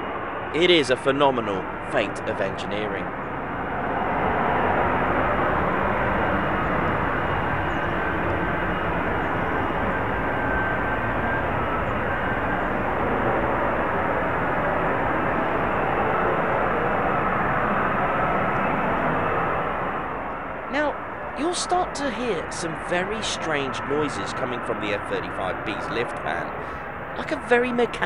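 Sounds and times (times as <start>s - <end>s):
jet engine hovering: 0.0s - 28.0s.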